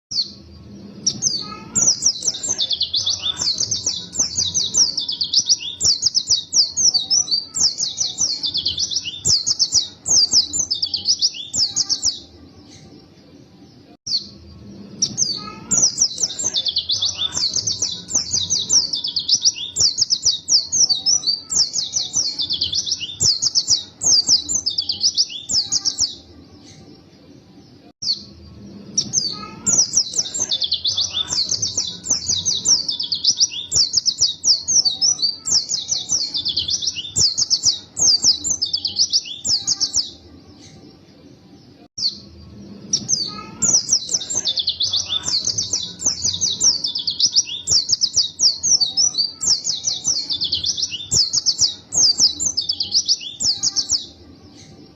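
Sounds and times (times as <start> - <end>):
bird twittering song: 0.1 - 27.0, 27.6 - 54.9.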